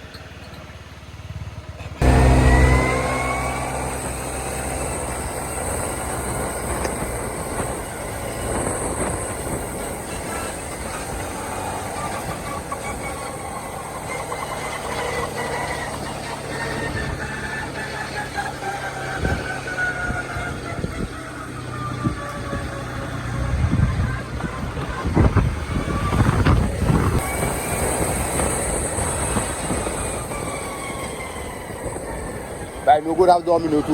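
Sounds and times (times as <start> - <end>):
road noise: 0.0 - 33.9
vehicle engine running: 0.0 - 33.9.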